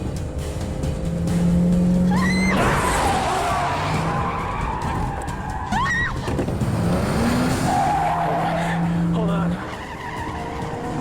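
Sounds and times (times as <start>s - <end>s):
car engines running hard: 0.0s - 11.0s.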